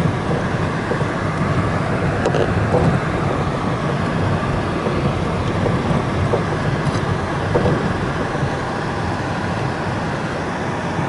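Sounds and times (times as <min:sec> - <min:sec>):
vehicle engine and tyre rumble: 0:00.0 - 0:11.0.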